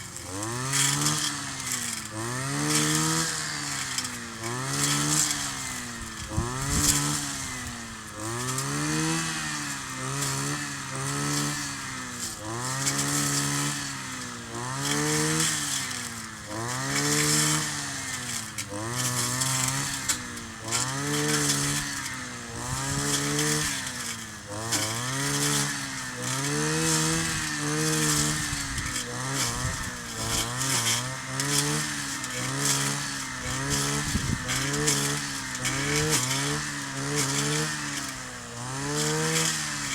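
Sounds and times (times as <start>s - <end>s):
brush cutter engine revving: 0.0s - 39.9s.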